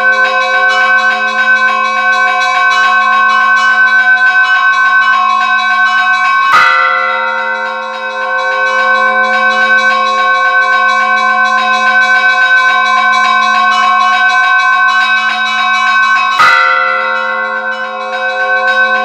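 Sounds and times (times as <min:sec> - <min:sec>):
large church bells ringing: 0:00.0 - 0:19.0
small church bells ringing quickly: 0:00.0 - 0:19.0.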